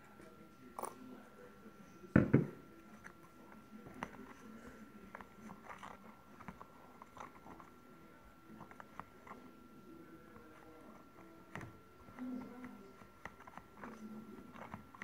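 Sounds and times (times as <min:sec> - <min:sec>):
spoon stirring in plastic tub: 0:02.8 - 0:15.0.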